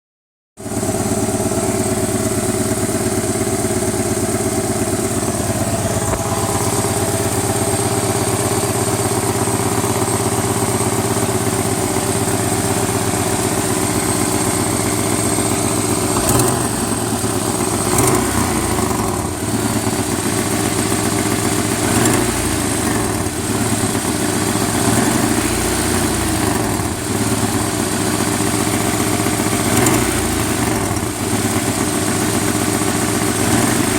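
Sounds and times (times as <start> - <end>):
engine idling: 0.6 - 33.9.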